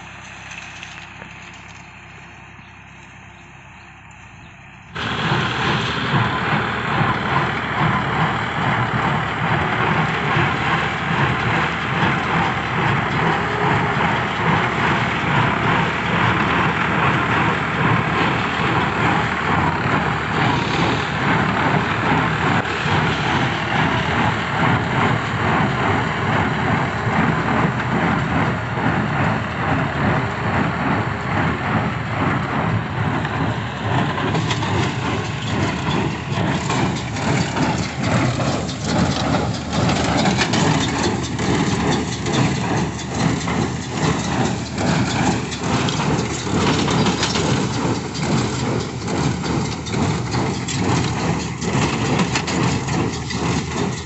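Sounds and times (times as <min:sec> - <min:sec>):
tractor engine running: 0:00.0 - 0:54.0
baler clattering: 0:05.0 - 0:54.0.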